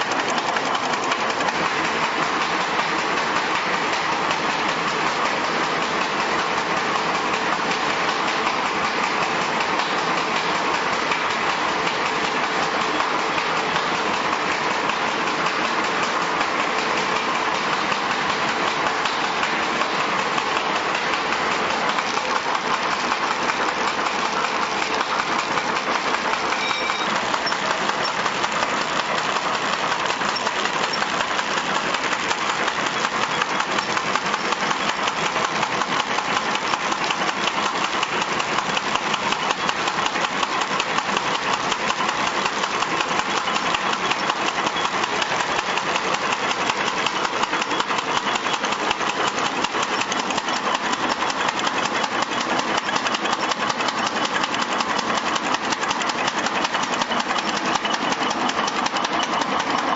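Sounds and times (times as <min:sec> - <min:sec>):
machine clattering rapidly: 0:00.0 - 0:59.9.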